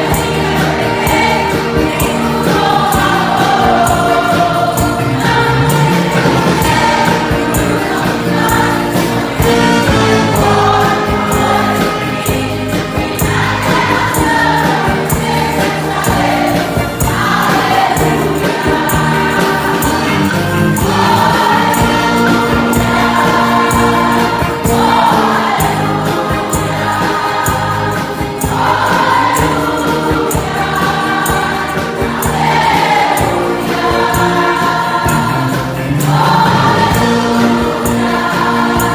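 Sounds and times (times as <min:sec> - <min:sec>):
choir singing a hymn: 0:00.0 - 0:38.9
instrumental accompaniment: 0:00.0 - 0:38.9.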